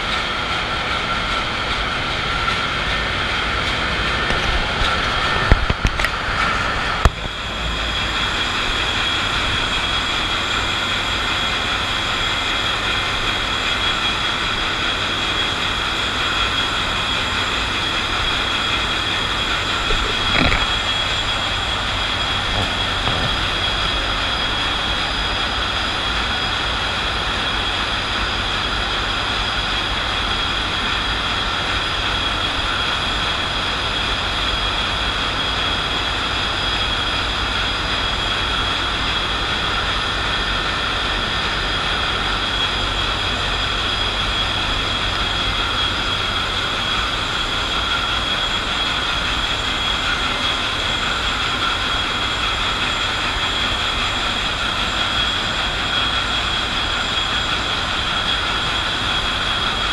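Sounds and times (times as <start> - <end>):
ship engine running: 0.0 - 59.9
turbocharger high whine: 0.0 - 59.9.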